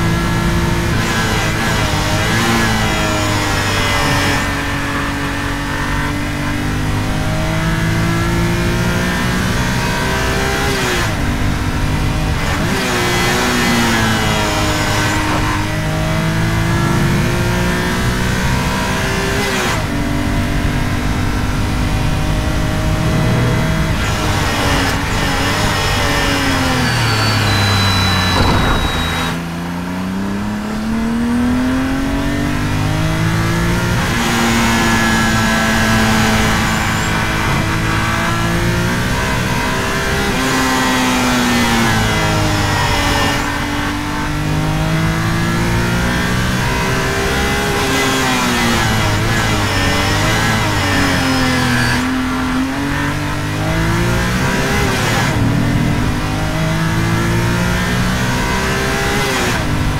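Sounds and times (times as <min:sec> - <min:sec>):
car engine at full throttle: 0:00.0 - 0:59.9.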